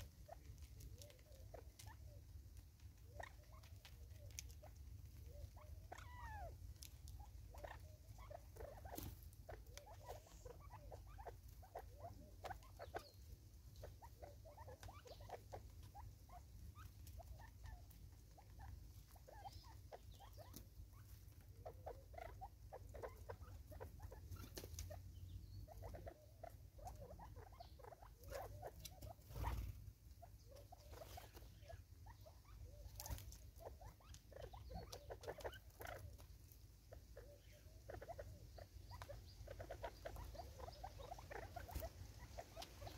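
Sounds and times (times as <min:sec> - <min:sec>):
birds pecking and scratching: 0:00.0 - 0:42.9
small squeaky bird calls: 0:00.0 - 0:42.9.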